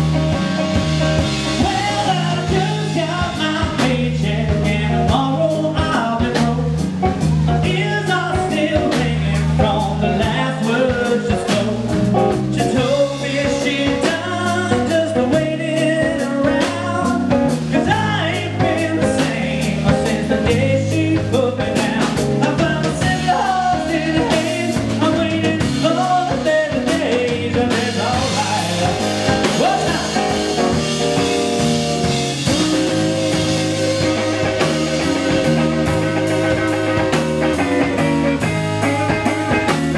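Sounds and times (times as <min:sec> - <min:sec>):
bass guitar: 0:00.0 - 0:39.9
drum kit: 0:00.0 - 0:39.9
electric guitar: 0:00.0 - 0:39.9
man singing: 0:01.2 - 0:39.8.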